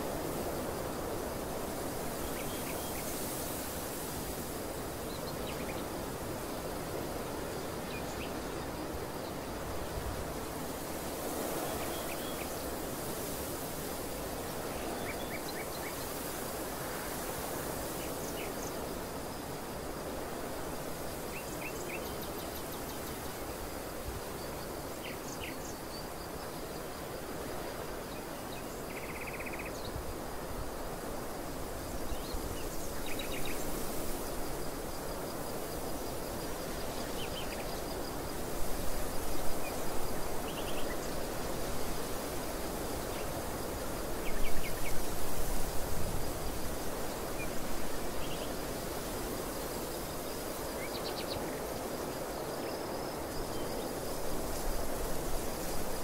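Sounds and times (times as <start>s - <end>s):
steady wind: 0.0s - 56.0s.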